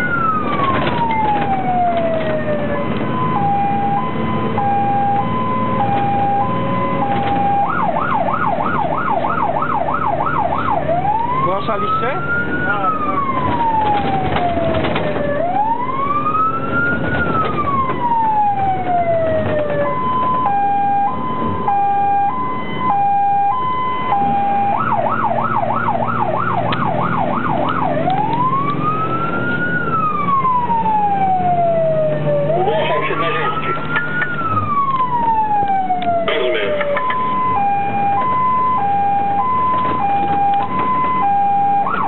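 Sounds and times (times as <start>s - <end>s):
fire engine siren: 0.0s - 42.0s
truck engine and road rumble: 0.0s - 42.0s.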